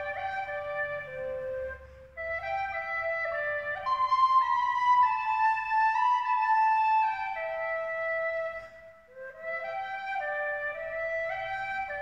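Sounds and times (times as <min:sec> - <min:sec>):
slow held-note instrumental music: 0:00.0 - 0:12.0.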